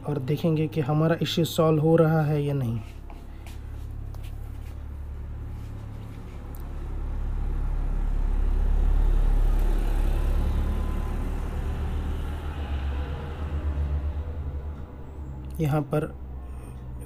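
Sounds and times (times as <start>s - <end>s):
steady low hum: 0.0s - 17.0s
vehicle engine rumble passing: 0.0s - 17.0s.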